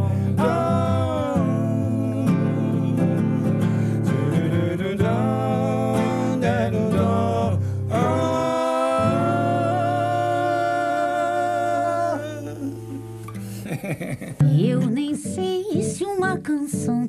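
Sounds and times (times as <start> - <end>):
person singing wordlessly: 0.0 - 13.0, 14.4 - 17.0
acoustic guitar: 0.0 - 17.0.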